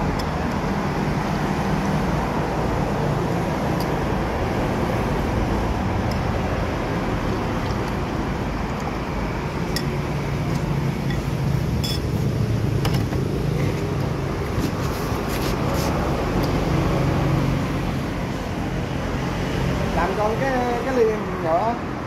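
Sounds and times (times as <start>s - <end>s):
highway traffic rumble: 0.0s - 22.0s.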